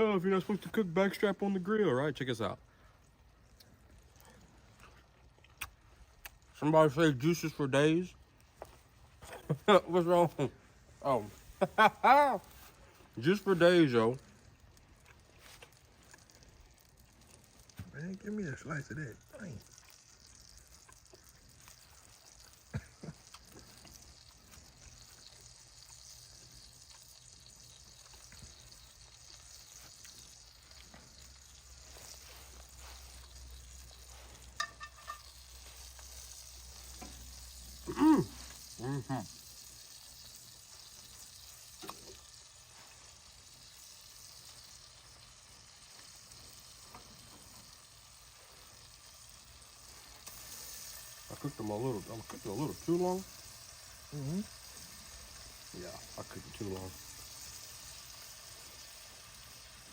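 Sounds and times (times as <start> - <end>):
butter sizzling in skillet: 0.0 - 59.9.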